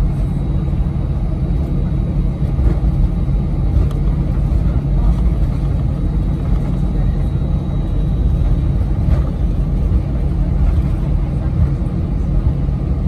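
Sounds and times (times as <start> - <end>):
aircraft engines rumbling: 0.0 - 13.0
wheels rolling on taxiway: 0.6 - 13.0.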